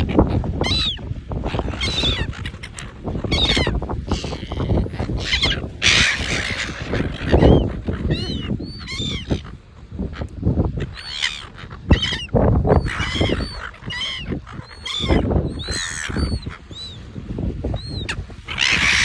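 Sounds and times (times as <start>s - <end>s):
seagulls squawking: 0.0s - 19.0s.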